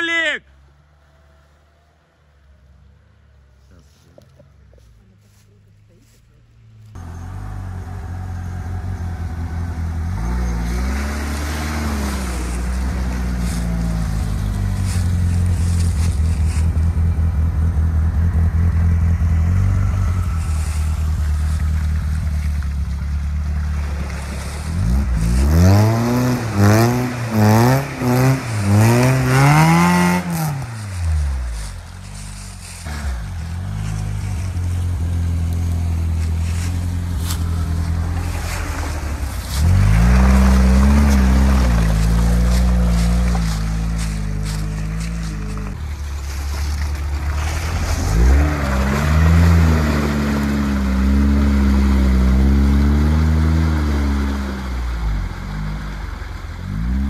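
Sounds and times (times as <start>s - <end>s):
car engine running and revving: 3.6s - 57.0s.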